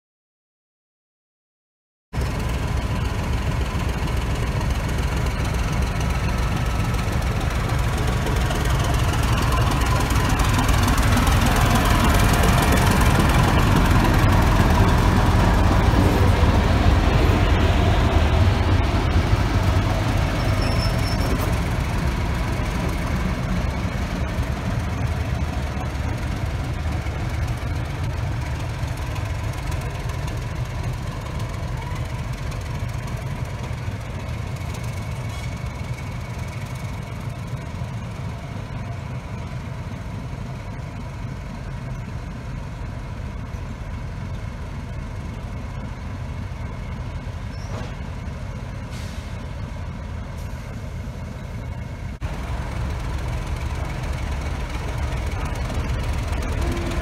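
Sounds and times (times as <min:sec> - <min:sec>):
diesel locomotive engine running: 0:02.2 - 0:57.0.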